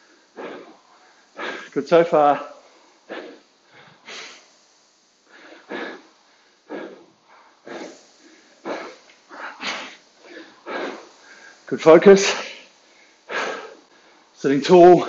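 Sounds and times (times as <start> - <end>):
man breathing hard: 0.0 - 1.8, 3.0 - 14.3.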